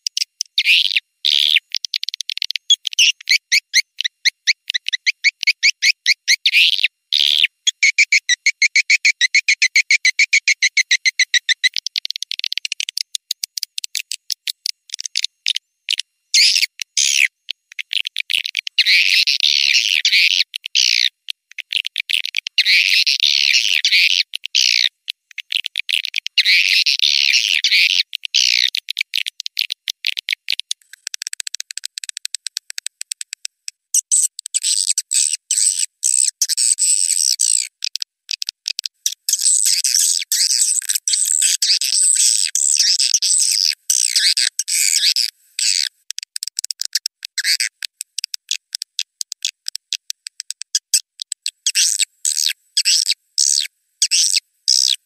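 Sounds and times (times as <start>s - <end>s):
swiftlet calls clicking and chirping: 0.0s - 55.0s.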